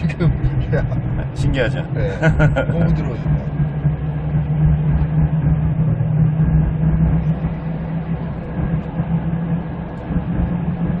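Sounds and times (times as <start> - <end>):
engine and tyre drone in cabin: 0.0 - 11.0.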